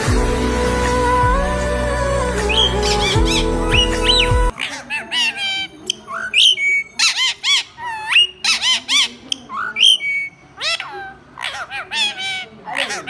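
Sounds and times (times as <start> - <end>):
parakeet high-pitched calls: 2.5 - 13.0.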